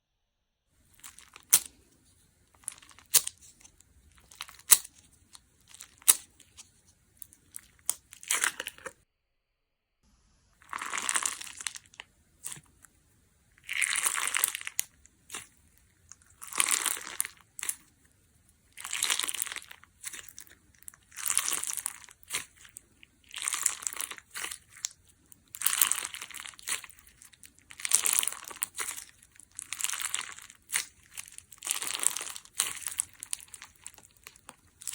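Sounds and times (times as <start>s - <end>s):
slime crackling and squishing: 0.8s - 9.0s, 10.6s - 12.9s, 13.6s - 34.9s.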